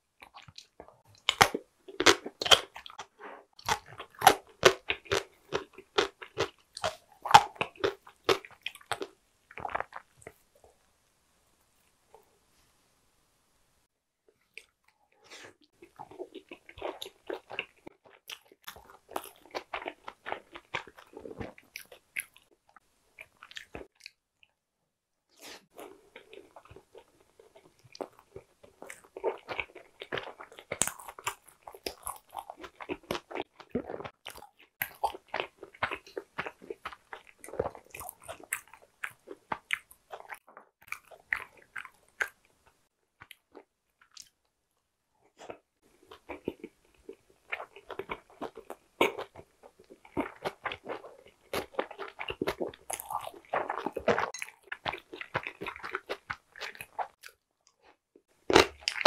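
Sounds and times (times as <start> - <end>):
close-miked chewing: 0.2 - 10.8, 14.3 - 24.5, 25.4 - 44.4, 45.3 - 59.0.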